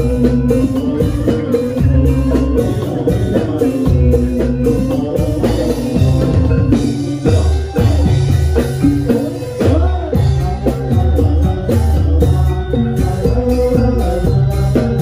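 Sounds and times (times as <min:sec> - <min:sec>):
hand drum pattern: 0:00.0 - 0:15.0
live dance music with drumming: 0:00.0 - 0:15.0.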